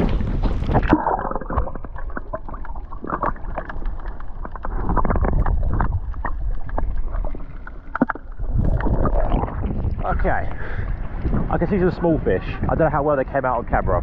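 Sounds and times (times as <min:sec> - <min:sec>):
small underwater clicks and crackles: 0:00.0 - 0:12.4
underwater rumble of moving water: 0:00.0 - 0:14.0.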